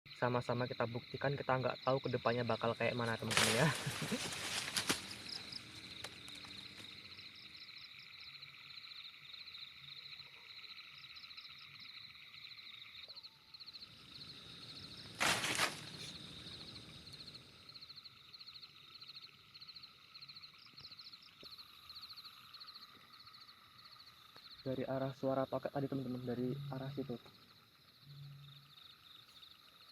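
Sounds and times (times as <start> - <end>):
frogs and insects trilling: 0.1 - 29.9.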